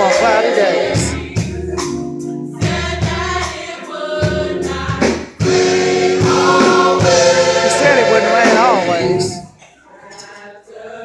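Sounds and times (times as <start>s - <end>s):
gospel choir singing: 0.0s - 11.0s.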